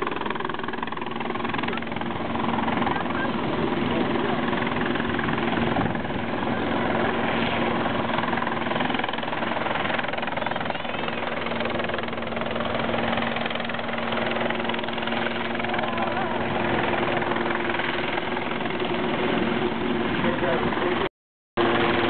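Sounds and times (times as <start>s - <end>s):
helicopter hovering: 0.0s - 22.0s.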